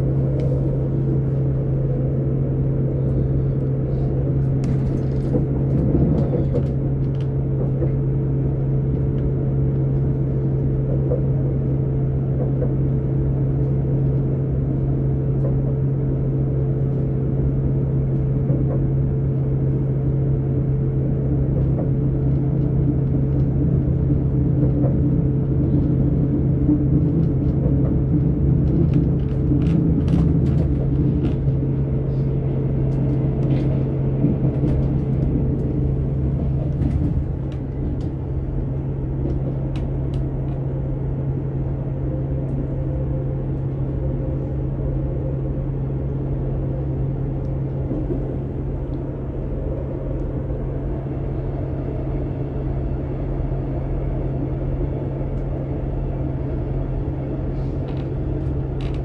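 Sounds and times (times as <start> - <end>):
diesel engine drone: 0.0 - 59.0
train wheels rumbling on track: 0.0 - 59.0.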